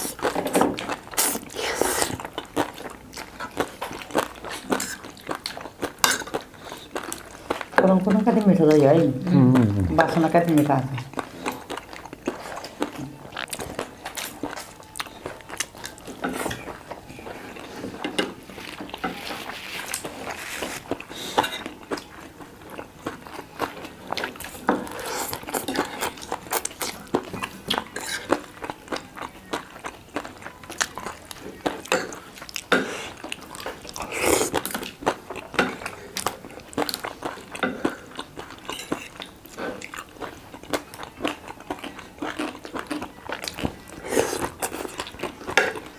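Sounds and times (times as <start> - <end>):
person chewing crunchy food: 0.0 - 8.1, 8.7 - 45.9.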